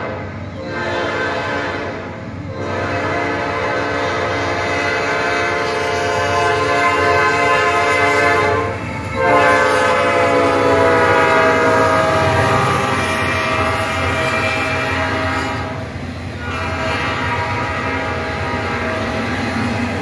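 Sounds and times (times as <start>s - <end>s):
locomotive air horn blasts: 0.0s - 19.4s
diesel locomotives rumbling: 0.0s - 20.0s.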